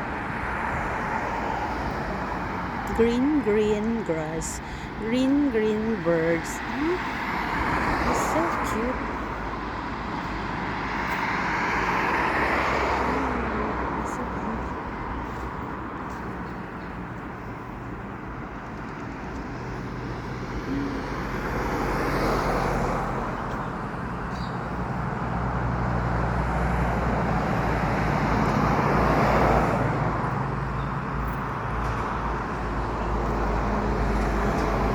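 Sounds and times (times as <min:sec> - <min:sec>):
road traffic passing: 0:00.0 - 0:34.9.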